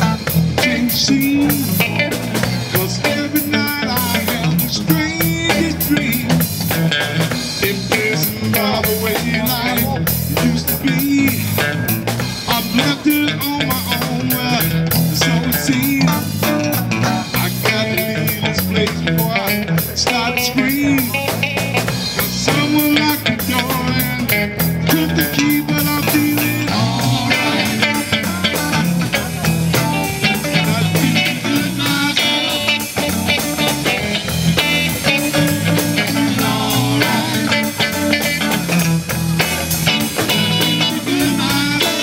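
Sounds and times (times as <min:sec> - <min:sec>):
drum kit beat: 0:00.0 - 0:42.0
electric guitars: 0:00.0 - 0:42.0.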